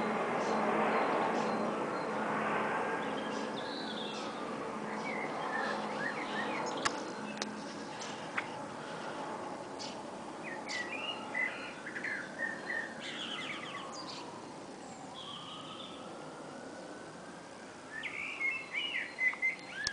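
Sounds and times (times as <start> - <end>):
small birds chirping: 0.0 - 2.2, 3.0 - 16.1, 17.9 - 19.9.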